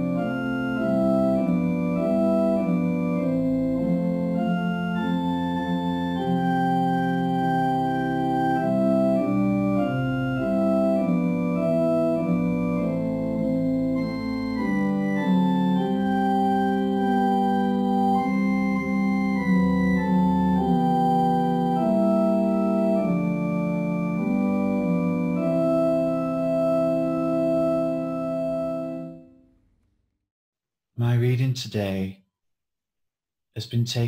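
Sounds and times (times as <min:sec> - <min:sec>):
organ playing hymn chords: 0:00.0 - 0:29.3.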